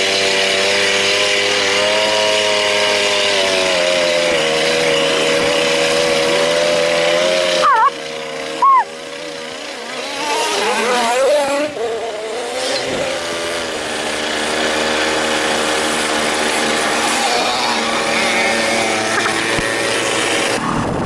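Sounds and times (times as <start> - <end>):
moped two-stroke engine running: 0.0 - 21.0.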